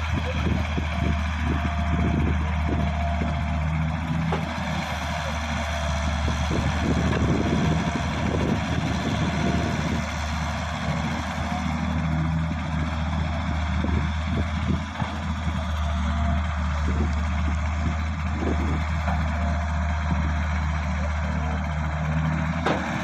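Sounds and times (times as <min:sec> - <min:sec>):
large diesel engine running: 0:00.0 - 0:23.0.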